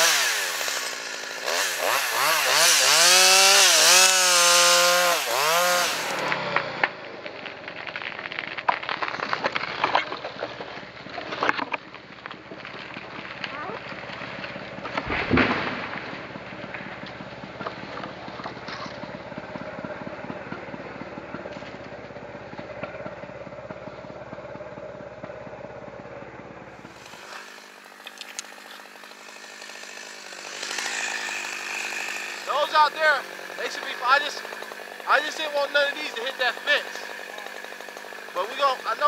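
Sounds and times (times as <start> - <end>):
chainsaw engine running: 0.0 - 39.0.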